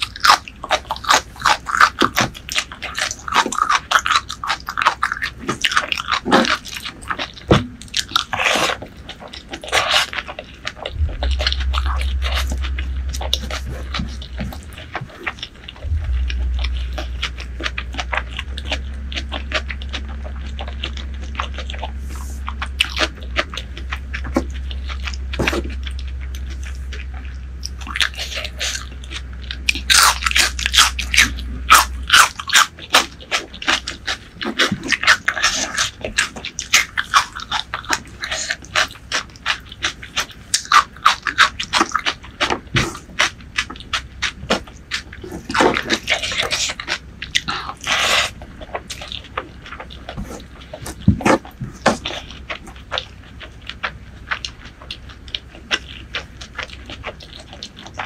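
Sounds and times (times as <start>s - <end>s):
steady low hum: 0.0s - 58.0s
wet chewing and crunching: 0.0s - 58.0s.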